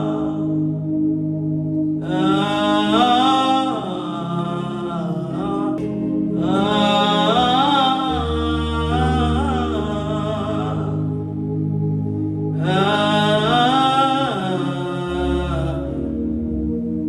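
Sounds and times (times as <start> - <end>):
sustained chords: 0.0 - 17.0
wordless wavering melody: 0.0 - 17.0.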